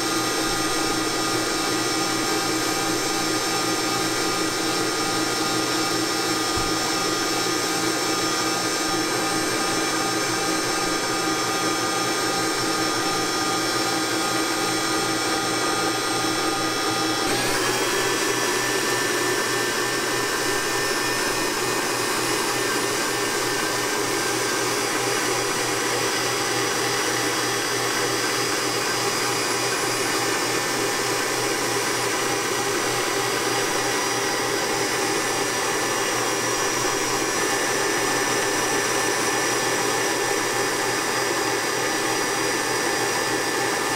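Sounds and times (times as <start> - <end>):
stand mixer motor whining: 0.0 - 43.9.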